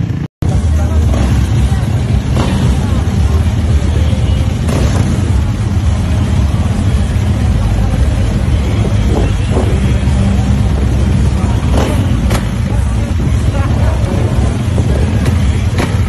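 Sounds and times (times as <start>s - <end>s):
motorcycle engine rumbling: 0.0s - 16.0s
people talking: 0.0s - 16.0s.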